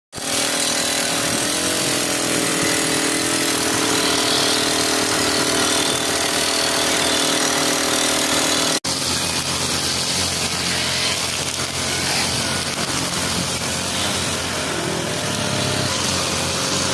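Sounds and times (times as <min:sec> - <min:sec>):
brush cutter running: 0:00.2 - 0:16.9.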